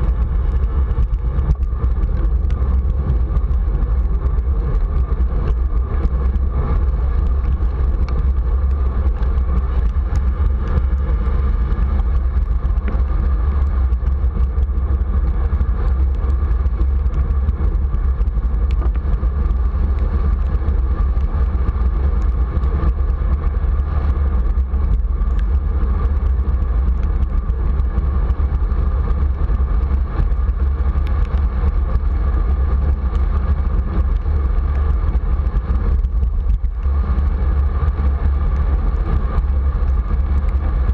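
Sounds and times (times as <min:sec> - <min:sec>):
bicycle tyres on wet road: 0:00.0 - 0:40.9
wind rumble on microphone: 0:00.0 - 0:40.9.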